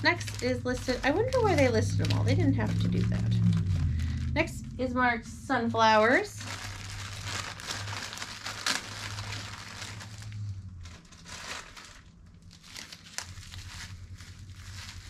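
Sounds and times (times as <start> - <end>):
plastic bag crinkling: 0.0 - 4.7, 5.8 - 15.0.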